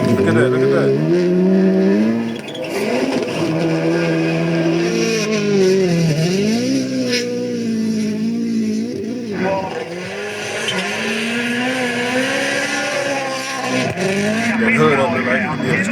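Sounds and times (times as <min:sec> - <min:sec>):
rally car engine revving: 0:00.0 - 0:15.9.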